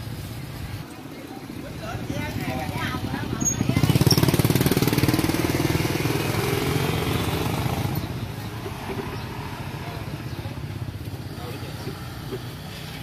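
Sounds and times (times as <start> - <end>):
motorbike engine passing: 1.6 - 13.0.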